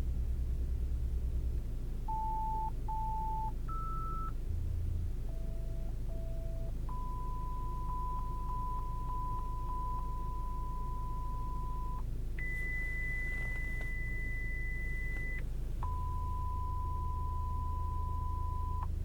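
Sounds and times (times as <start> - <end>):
low steady hum: 0.0 - 19.0
long steady tone: 2.1 - 19.0.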